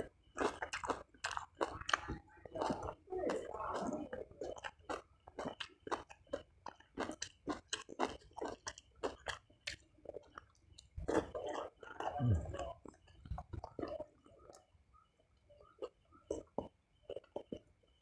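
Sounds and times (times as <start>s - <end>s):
mouth chewing food: 0.0s - 18.0s.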